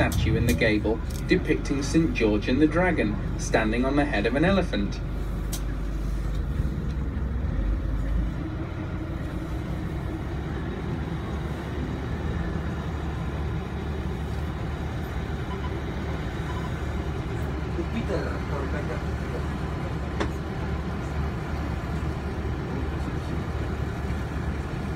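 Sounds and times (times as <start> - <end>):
boat engine rumbling: 0.0 - 24.9.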